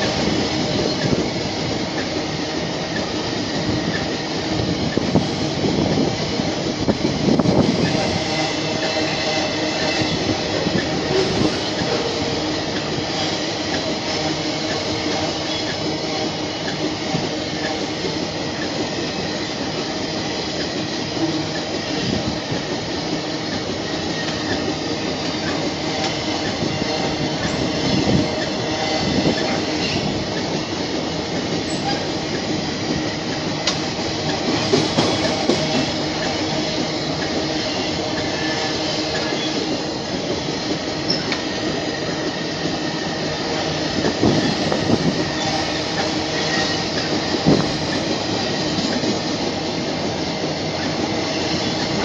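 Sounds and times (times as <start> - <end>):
train wheels rumbling and rattling: 0.0 - 52.0.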